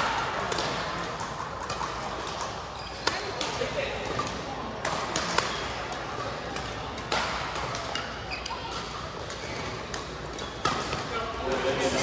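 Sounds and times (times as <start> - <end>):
racket hitting shuttlecock: 0.0 - 11.2
faint voices in hall: 0.0 - 12.0.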